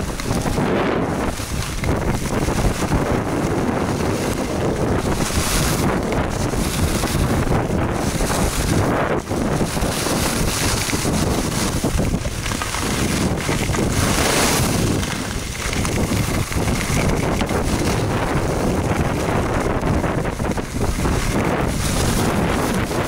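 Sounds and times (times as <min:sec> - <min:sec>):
skis scraping over snow: 0:00.0 - 0:23.0
wind buffeting microphone: 0:00.0 - 0:23.0.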